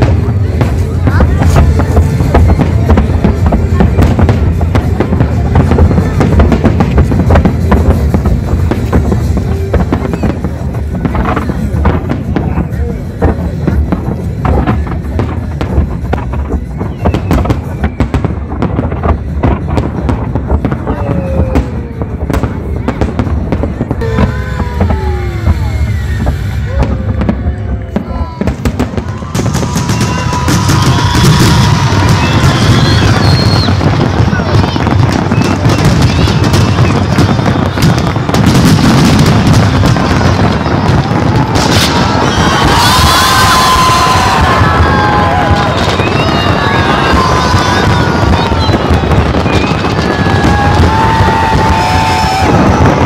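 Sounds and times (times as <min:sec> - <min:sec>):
fireworks crackling: 0:00.0 - 0:53.0
fireworks shells booming: 0:00.0 - 0:53.0.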